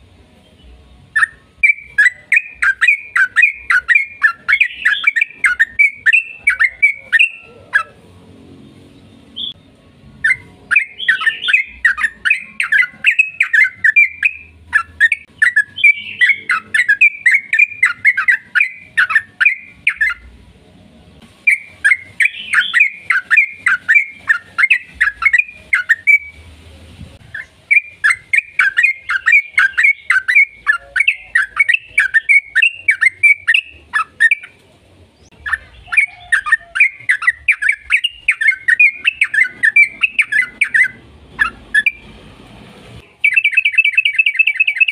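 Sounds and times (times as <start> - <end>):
bird chattering song: 0.5 - 8.0, 9.0 - 20.3, 21.5 - 26.4, 27.2 - 34.6, 35.2 - 42.1, 43.1 - 44.9.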